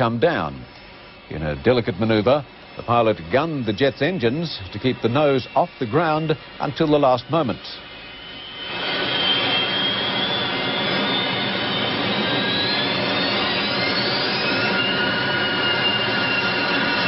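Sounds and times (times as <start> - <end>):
jet engines running at high power: 0.0 - 17.0.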